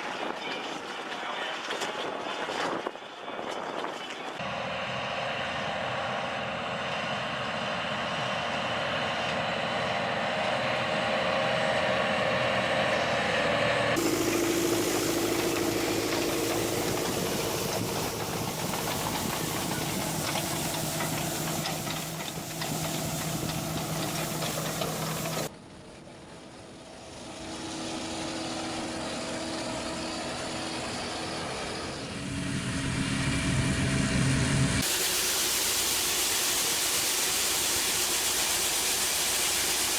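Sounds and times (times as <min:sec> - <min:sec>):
farm machinery engines running: 0:00.0 - 0:39.9.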